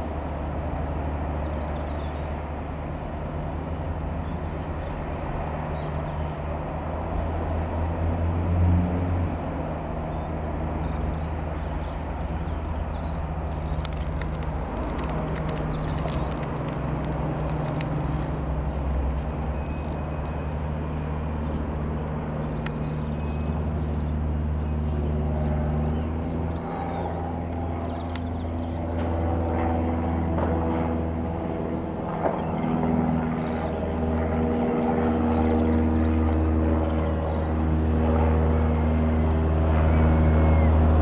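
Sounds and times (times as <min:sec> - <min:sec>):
propeller plane engine droning: 0:00.0 - 0:41.0.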